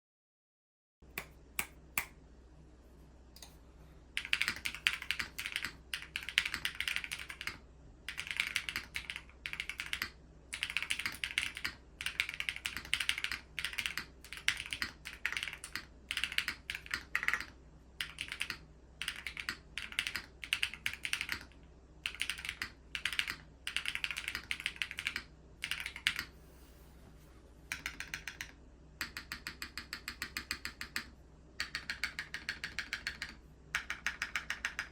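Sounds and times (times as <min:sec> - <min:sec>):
rapid keyboard typing: 0:04.2 - 0:26.3, 0:27.7 - 0:34.9.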